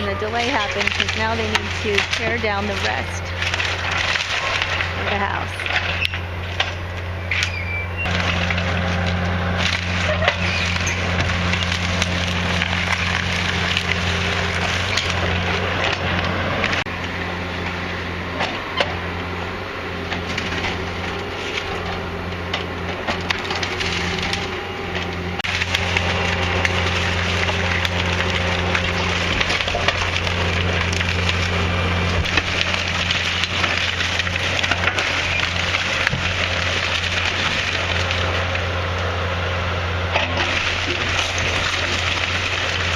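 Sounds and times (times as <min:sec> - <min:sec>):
timber cracking and splintering: 0:00.0 - 0:17.0, 0:20.1 - 0:39.0, 0:40.1 - 0:42.9
engine drone: 0:00.0 - 0:42.9.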